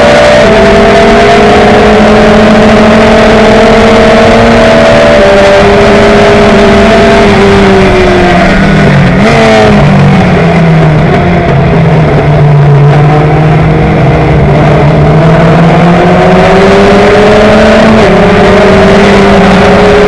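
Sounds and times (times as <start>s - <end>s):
race car engine running hard: 0.0s - 20.0s
wind rushing over cockpit: 0.0s - 20.0s.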